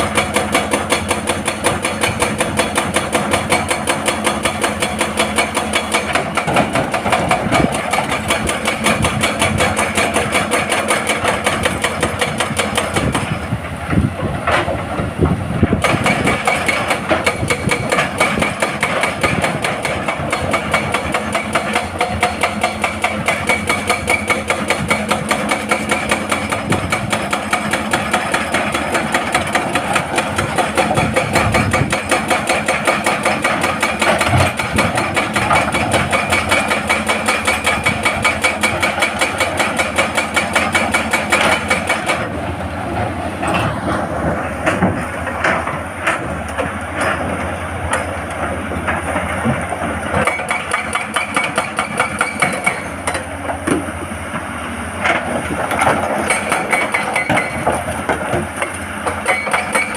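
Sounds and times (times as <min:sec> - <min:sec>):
hydraulic breaker hammering rock: 0:00.0 - 0:42.4, 0:44.6 - 0:59.9
diesel engine running: 0:00.0 - 0:59.9.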